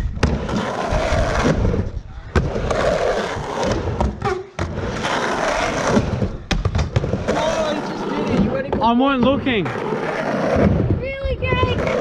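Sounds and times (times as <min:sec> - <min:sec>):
skateboard wheels rolling on ramp: 0:00.0 - 0:12.0
skateboard clack: 0:02.3 - 0:12.0.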